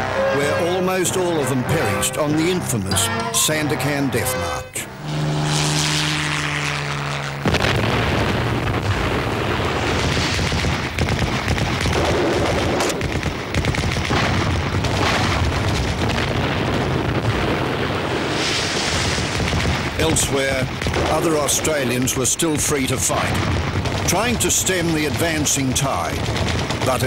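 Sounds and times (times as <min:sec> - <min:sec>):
propeller aircraft engine drone: 0:00.0 - 0:14.1, 0:18.0 - 0:27.0
explosions: 0:05.0 - 0:27.0
gunfire: 0:05.1 - 0:27.0.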